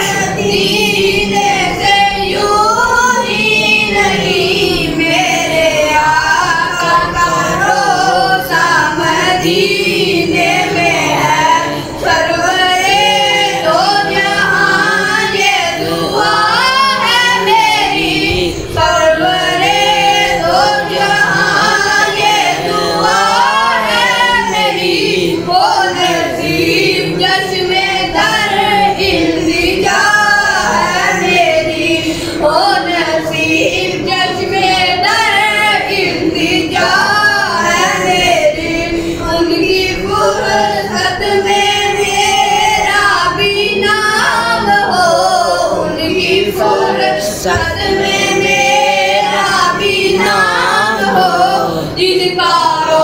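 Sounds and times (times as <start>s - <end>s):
boy singing into a microphone: 0.0s - 53.0s.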